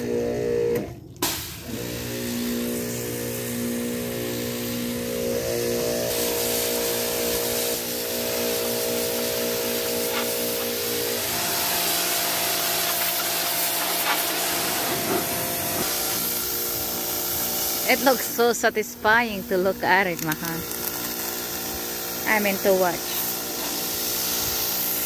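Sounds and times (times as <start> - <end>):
pressure washer humming drone: 0.0 - 25.0
pressure washer spray hiss: 1.2 - 25.0.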